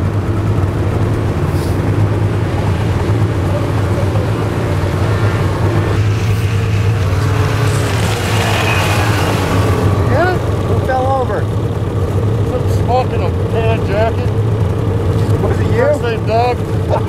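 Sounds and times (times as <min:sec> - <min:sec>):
snowmobile engines droning: 0:00.0 - 0:17.0.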